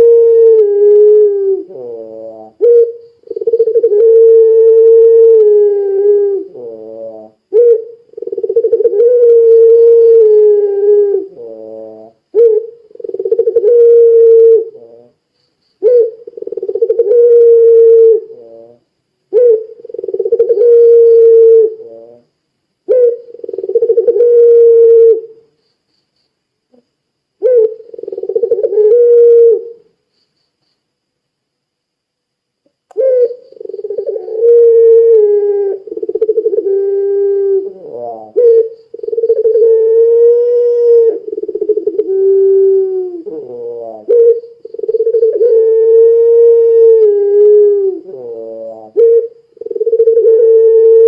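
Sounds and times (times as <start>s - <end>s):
dove cooing: 0.0s - 15.2s, 15.8s - 22.3s, 22.9s - 25.5s, 27.4s - 29.9s, 32.9s - 51.0s.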